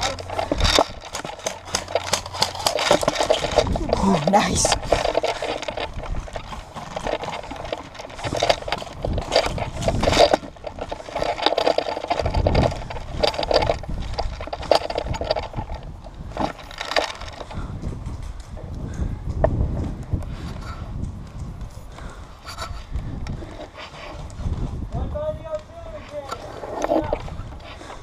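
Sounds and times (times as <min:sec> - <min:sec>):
footsteps on gravel path: 0:00.0 - 0:28.0.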